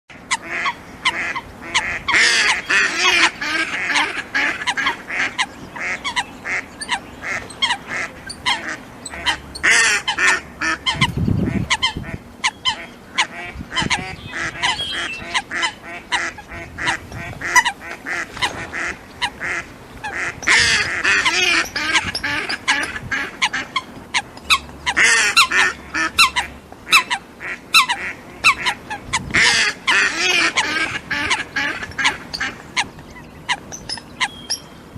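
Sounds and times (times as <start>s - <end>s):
ducks quacking: 0.2s - 34.6s
rapid loud duck calling: 0.3s - 34.4s.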